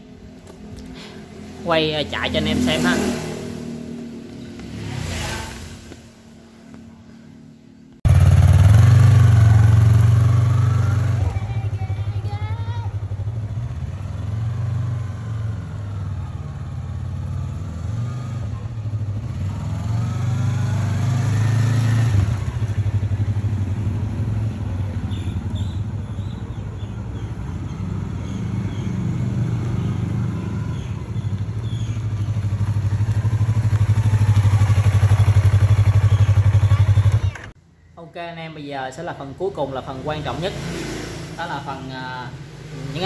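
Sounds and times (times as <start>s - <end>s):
motorcycle engine revving: 0.8s - 6.8s, 8.0s - 37.6s, 39.8s - 43.0s.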